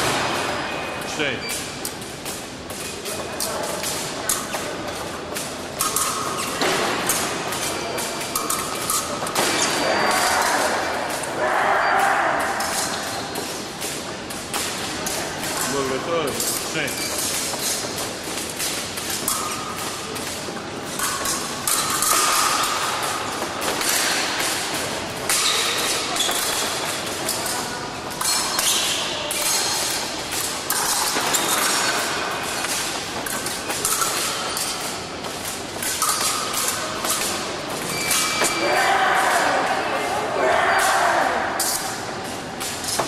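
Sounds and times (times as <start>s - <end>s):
din of a large hall: 0.0s - 43.0s.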